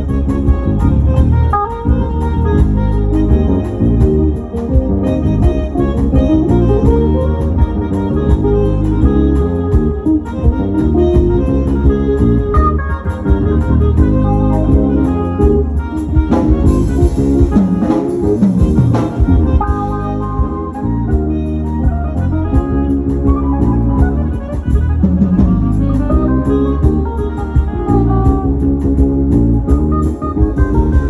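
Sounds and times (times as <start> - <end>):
live band playing: 0.0 - 31.0.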